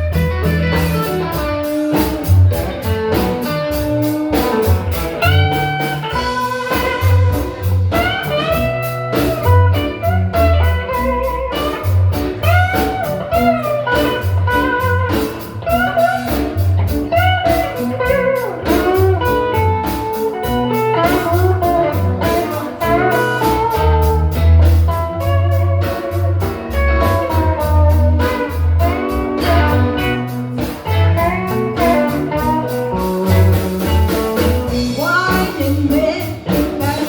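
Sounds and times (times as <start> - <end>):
bass line: 0.0 - 37.0
drums: 0.0 - 37.0
lead guitar bending notes: 0.0 - 37.0.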